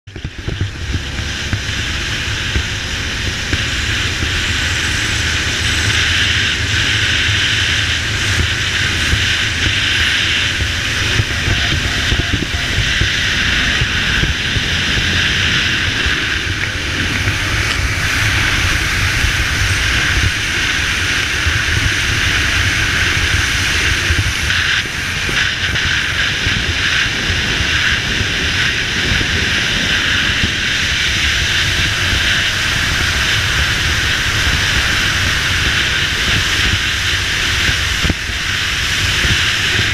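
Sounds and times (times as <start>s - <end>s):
boat engine drone: 0.0s - 39.9s
rush of wind and water: 0.1s - 39.9s.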